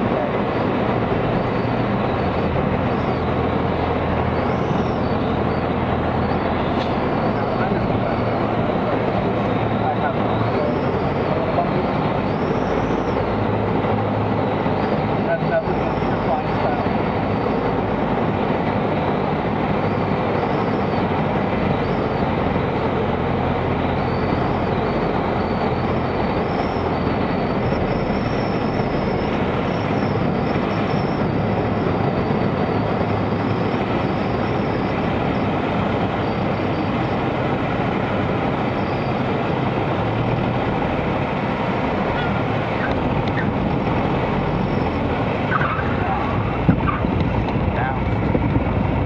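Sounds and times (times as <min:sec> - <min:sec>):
airplane engine rumble: 0:00.0 - 0:49.0.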